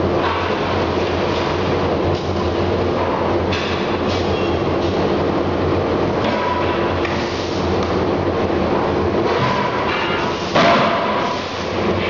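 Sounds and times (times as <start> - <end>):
machinery humming and rumbling: 0.0 - 12.0.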